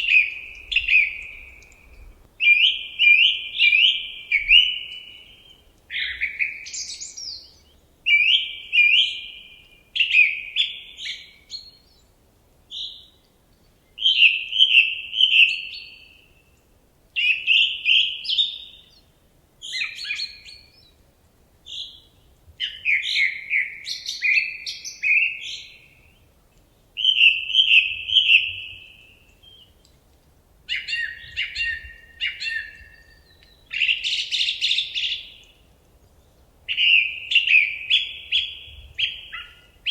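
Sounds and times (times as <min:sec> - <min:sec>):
songbird singing trills: 0:00.0 - 0:12.1, 0:12.7 - 0:21.0, 0:21.6 - 0:29.9, 0:30.7 - 0:39.9.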